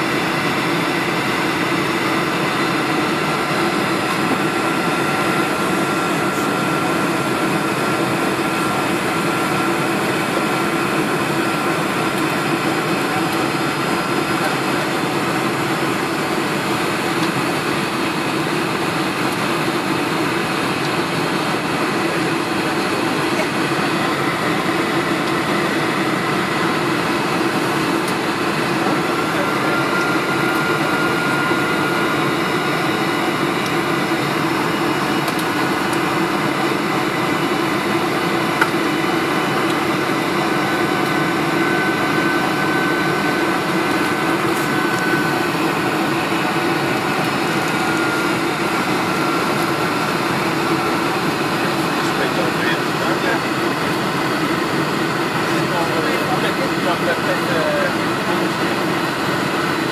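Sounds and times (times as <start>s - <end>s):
aircraft cabin engine noise: 0.0s - 59.9s.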